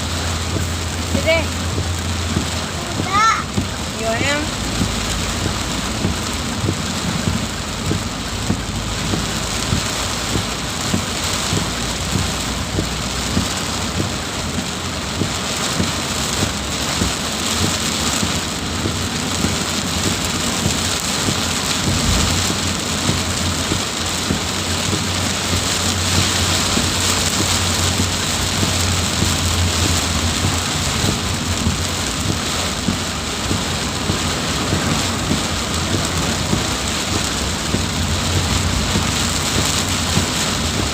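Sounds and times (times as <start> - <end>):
heavy rain pouring: 0.0 - 40.9
low rumble: 0.0 - 40.9.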